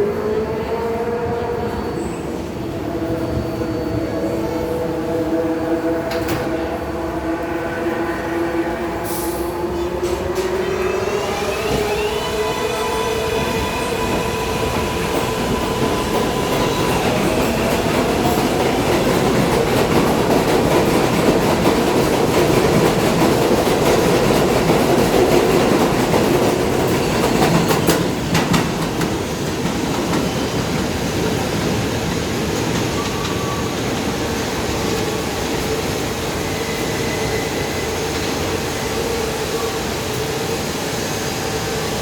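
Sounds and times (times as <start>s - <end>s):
subway train running on rails: 0.0s - 42.0s.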